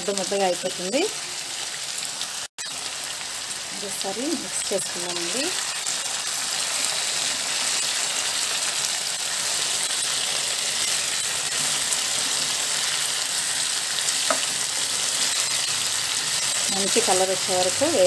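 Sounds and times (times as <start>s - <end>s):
potatoes sizzling in oil: 0.0s - 18.0s.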